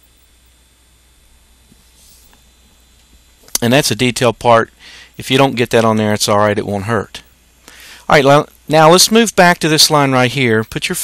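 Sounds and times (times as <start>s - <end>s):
faint steady hiss: 0.0s - 11.0s
low hum: 0.0s - 11.0s.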